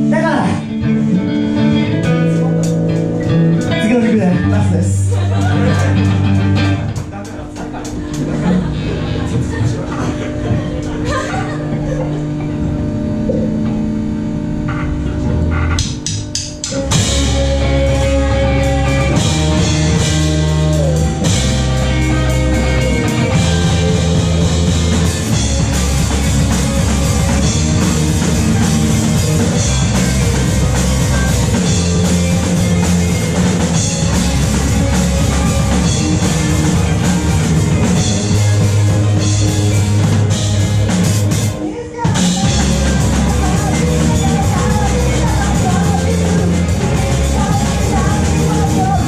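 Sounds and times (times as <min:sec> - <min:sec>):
live rock music: 0:00.0 - 0:49.0.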